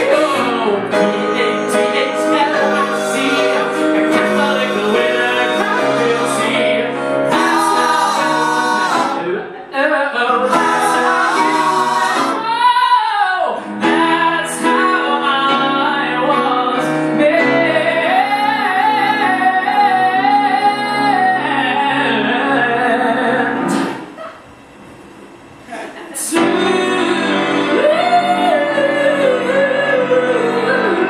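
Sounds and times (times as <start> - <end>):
man singing: 0.0 - 23.7, 26.2 - 31.0
piano accompaniment: 0.0 - 24.2, 26.3 - 31.0.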